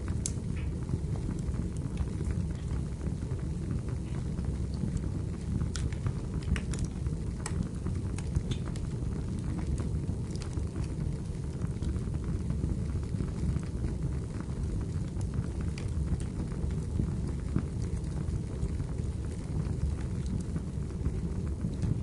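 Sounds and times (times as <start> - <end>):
firewood crackling and popping: 0.0 - 22.0
flames rumbling: 0.0 - 22.0.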